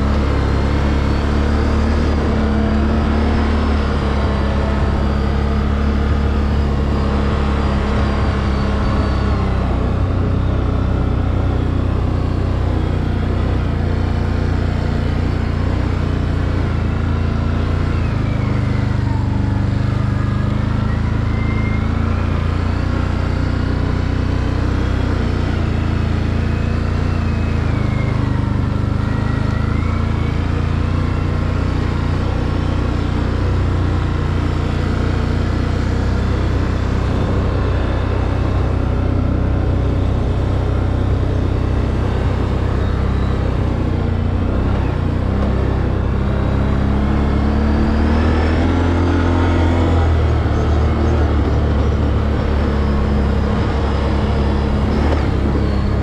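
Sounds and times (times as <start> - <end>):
quad bike engine running: 0.0 - 56.0
thin whine: 0.0 - 56.0.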